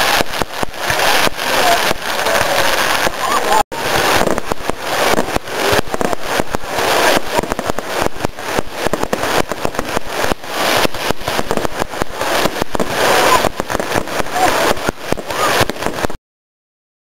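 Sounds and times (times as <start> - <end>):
fireworks crackling and popping: 0.0 - 16.2.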